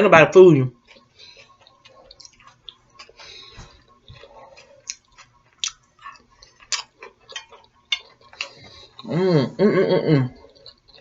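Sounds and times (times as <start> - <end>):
chewing food: 0.7 - 9.2, 10.2 - 11.0.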